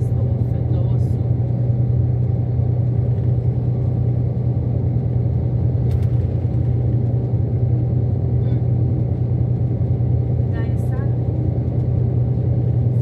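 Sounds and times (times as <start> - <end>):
vehicle rumble inside cabin: 0.0 - 13.0.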